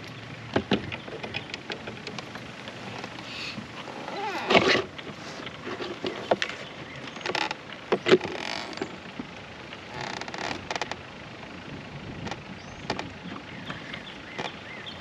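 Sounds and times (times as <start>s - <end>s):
boat seat creaking: 0.0s - 9.0s, 9.9s - 11.0s, 12.2s - 14.9s
knocks and clicks of gear: 0.0s - 11.1s, 12.0s - 15.0s.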